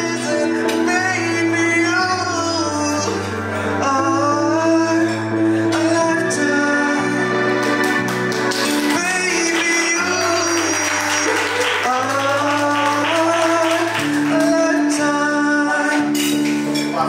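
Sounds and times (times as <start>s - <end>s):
person singing into microphone: 0.0s - 8.0s, 8.6s - 17.0s
backing music: 0.0s - 17.0s.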